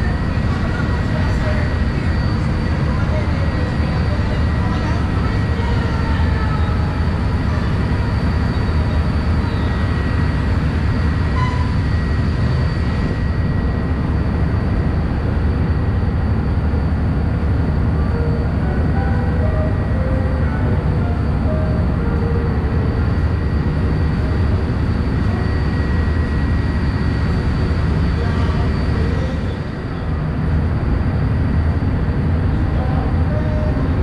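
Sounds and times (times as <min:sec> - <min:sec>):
faint high whines: 0:00.0 - 0:34.0
ferry engine rumble: 0:00.0 - 0:34.0.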